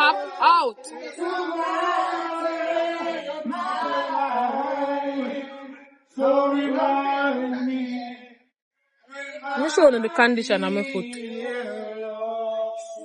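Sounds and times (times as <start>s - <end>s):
voices singing a slow chant: 0.0s - 8.4s, 9.1s - 13.0s.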